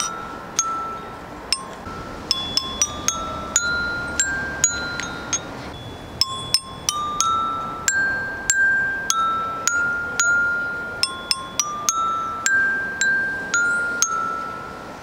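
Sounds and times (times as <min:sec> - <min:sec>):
toy xylophone tune: 0:00.0 - 0:15.0.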